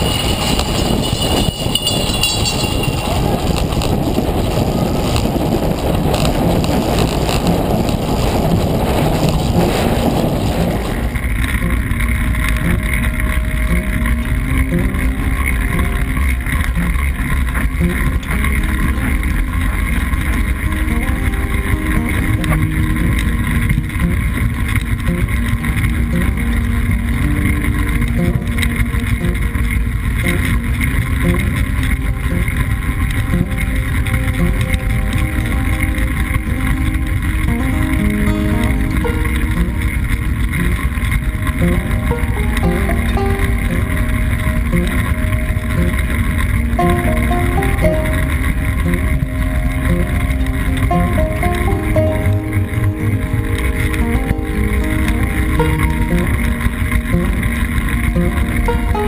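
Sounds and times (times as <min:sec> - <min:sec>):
wind rushing: 0:00.0 - 0:58.1
bike rolling on wooden boards: 0:00.0 - 0:59.0.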